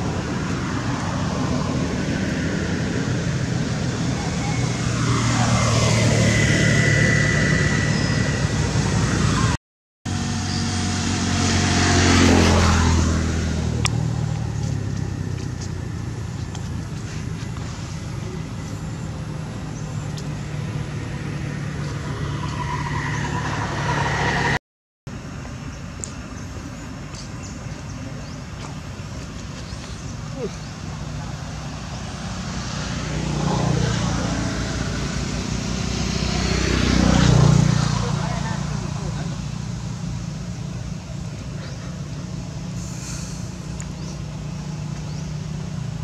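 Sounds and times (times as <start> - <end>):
vehicle passing by: 0.0 - 24.6, 29.0 - 46.0
traffic engine hum: 0.0 - 46.0.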